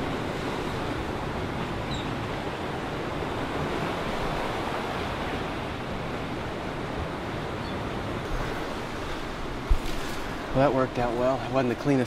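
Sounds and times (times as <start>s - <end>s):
surf washing over rocks: 0.0s - 12.0s.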